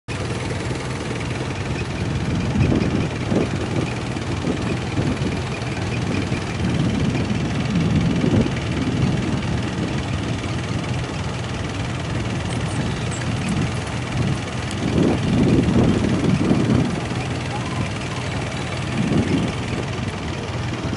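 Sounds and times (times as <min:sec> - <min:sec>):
motorboat engine running: 0:00.1 - 0:20.9.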